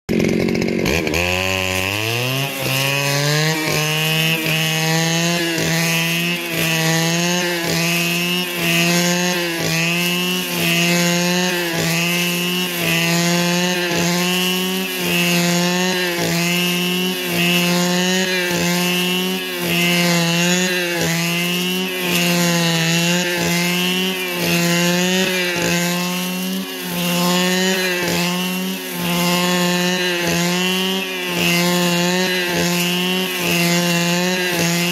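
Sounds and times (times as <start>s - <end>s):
two-stroke power tool engine revving: 0.1s - 34.9s.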